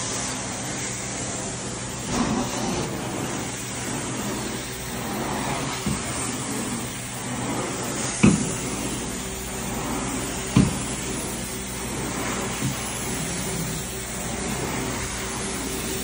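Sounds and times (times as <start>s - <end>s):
vacuum running through hose: 0.0s - 16.0s
low hum: 0.6s - 15.9s.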